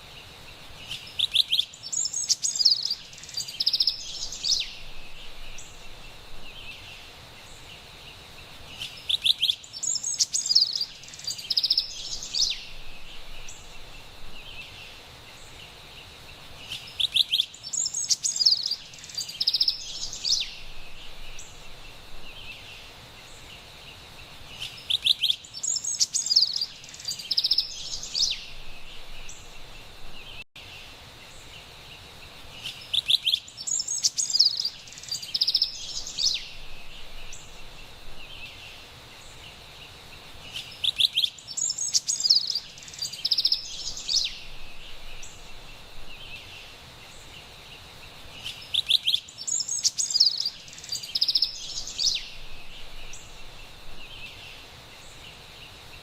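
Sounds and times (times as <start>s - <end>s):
forest background hiss: 0.0s - 56.0s
wren singing: 0.3s - 56.0s.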